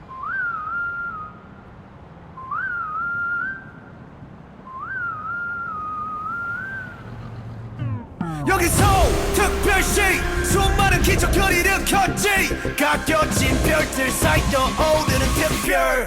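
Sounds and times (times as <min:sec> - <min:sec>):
whistled melody: 0:00.1 - 0:01.6, 0:02.4 - 0:04.0, 0:04.6 - 0:07.0, 0:08.6 - 0:16.0.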